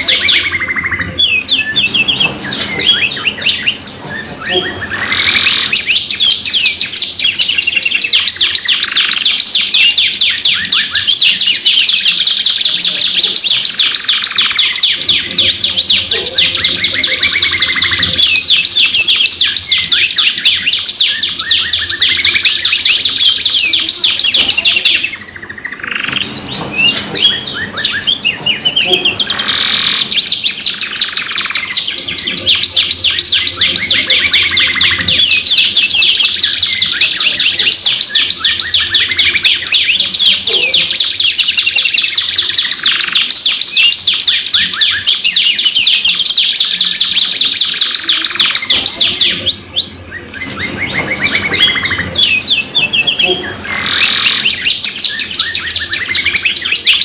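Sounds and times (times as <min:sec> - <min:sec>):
canaries singing trills: 0:00.0 - 0:57.0.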